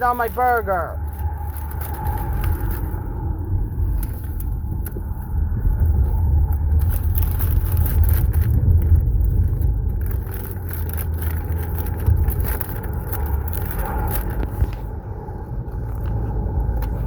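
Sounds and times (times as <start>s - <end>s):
low rumble: 0.0s - 17.0s
sandwich wrapper crinkling: 0.0s - 17.0s.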